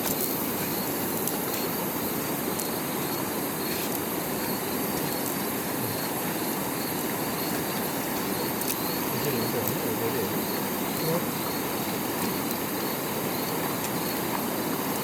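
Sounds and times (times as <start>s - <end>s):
insects chirring: 0.0s - 15.0s
river water rushing: 0.1s - 15.0s.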